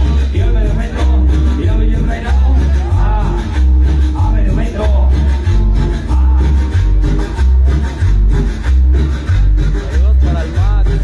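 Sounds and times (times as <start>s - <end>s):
heavy bass note: 0.0s - 11.0s
loud latin dance music: 0.0s - 11.0s.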